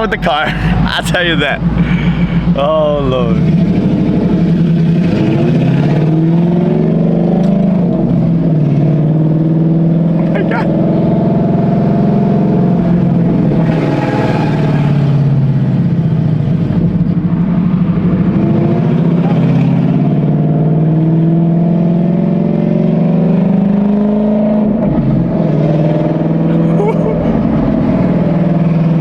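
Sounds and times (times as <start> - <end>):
car engine deep drone: 0.0 - 29.0.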